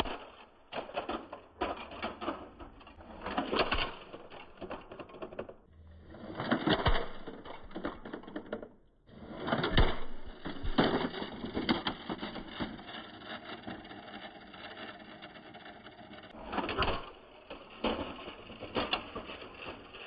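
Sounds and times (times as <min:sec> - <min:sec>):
metal model cars crashing: 0:00.0 - 0:20.0.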